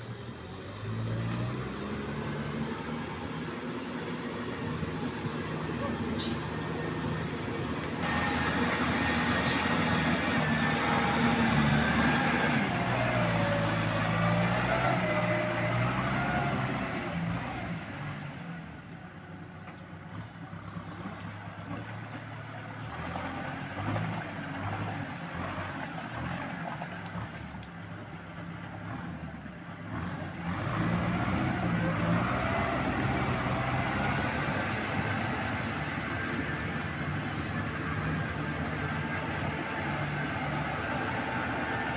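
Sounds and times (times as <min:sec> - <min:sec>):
tractor engine under load: 0:00.0 - 0:41.9.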